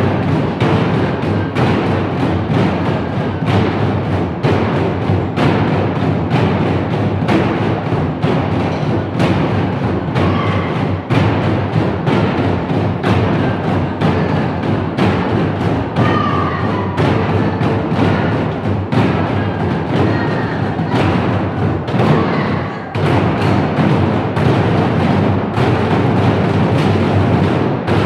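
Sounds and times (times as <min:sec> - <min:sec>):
barrel drums beaten fast: 0:00.0 - 0:28.0.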